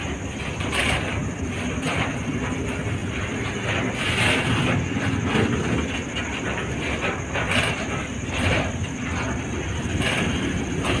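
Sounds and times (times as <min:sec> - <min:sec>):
steel wheels rumbling on track: 0:00.0 - 0:11.0
wheel clacks: 0:00.0 - 0:11.0.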